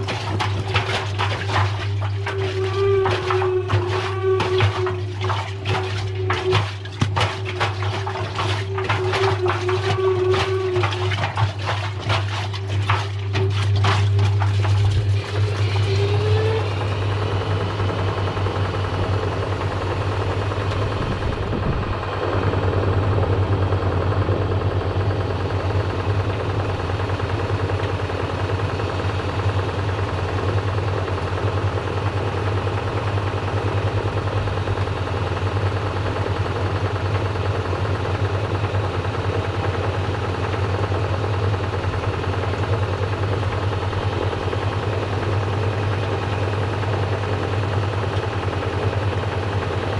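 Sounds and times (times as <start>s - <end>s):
washing machine hum: 0.0s - 49.9s.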